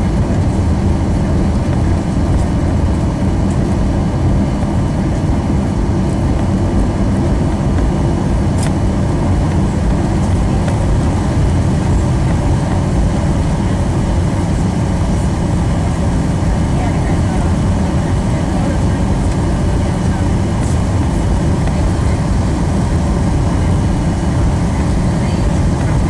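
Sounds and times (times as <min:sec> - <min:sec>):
jet engines rumbling: 0:00.0 - 0:26.0
wheels rolling on taxiway: 0:00.0 - 0:26.0.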